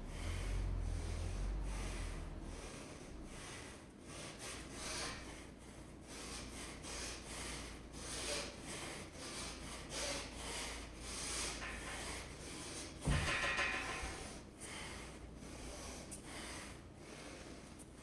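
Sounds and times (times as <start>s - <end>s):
person breathing hard: 0.0s - 13.0s, 13.8s - 18.0s.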